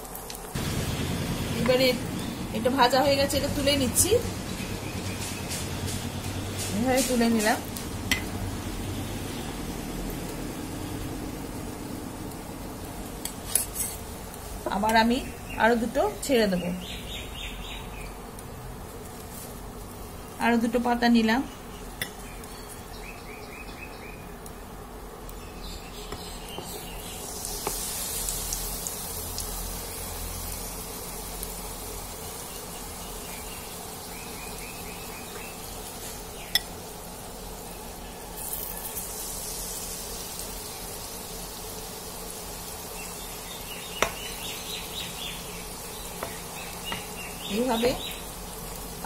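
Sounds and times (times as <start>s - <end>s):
leaves frying in oil: 0.0s - 49.0s.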